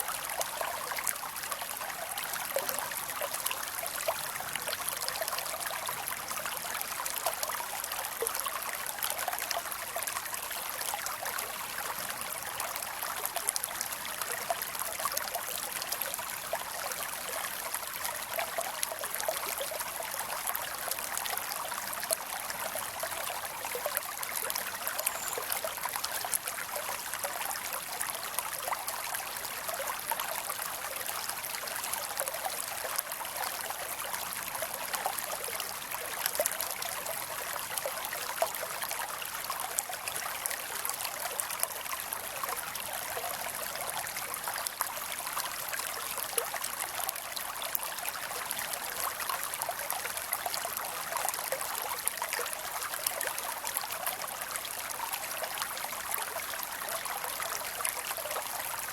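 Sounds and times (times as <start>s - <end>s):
creek water running over rocks: 0.0s - 58.9s.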